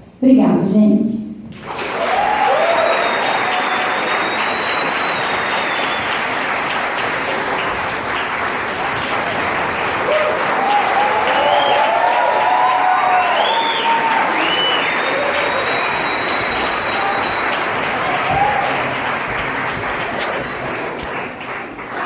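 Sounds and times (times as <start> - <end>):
audience applauding: 1.5 - 22.0.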